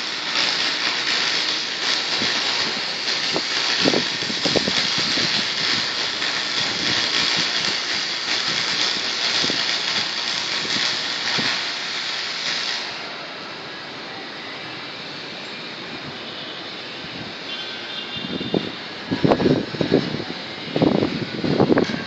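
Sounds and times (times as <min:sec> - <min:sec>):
electric arc welding crackling hiss: 0:00.0 - 0:22.0.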